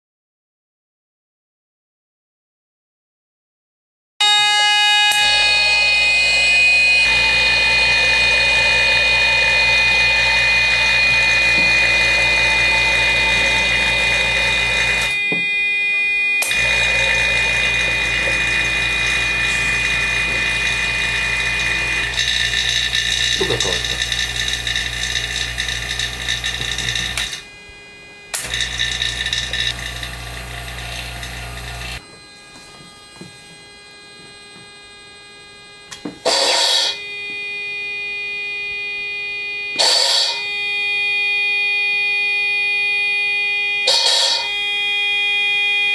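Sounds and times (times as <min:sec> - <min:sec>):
mechanical buzz with whine: 0:04.2 - 0:45.9.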